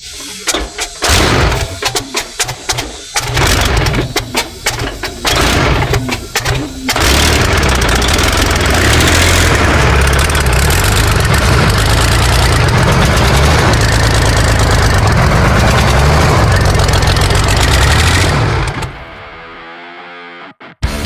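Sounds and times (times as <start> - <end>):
diesel engine running unevenly: 0.0 - 19.2.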